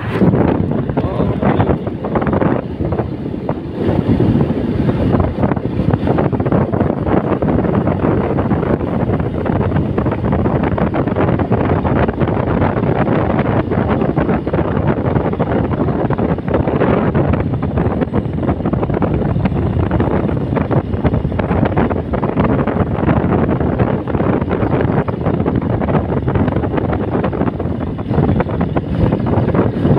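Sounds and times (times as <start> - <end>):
vehicle and road noise: 0.0 - 29.9
wind buffeting microphone: 0.0 - 29.9.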